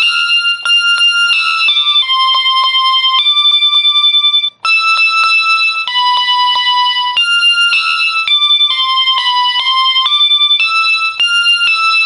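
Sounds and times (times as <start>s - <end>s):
keyboard chords: 0.0s - 12.0s
ticking beat: 0.0s - 12.0s.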